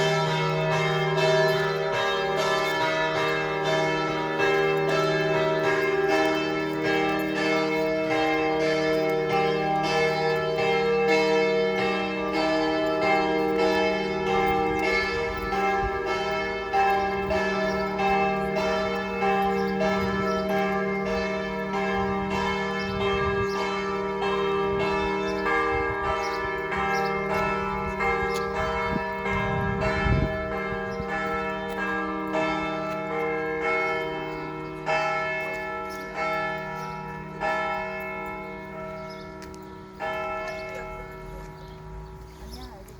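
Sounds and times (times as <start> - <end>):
church bells pealing: 0.0 - 42.9.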